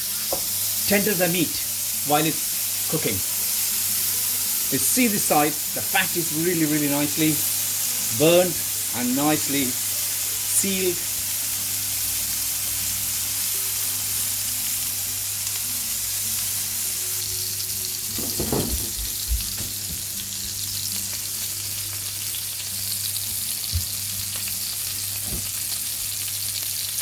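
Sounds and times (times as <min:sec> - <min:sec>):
steak sizzling on a griddle: 0:00.0 - 0:27.0.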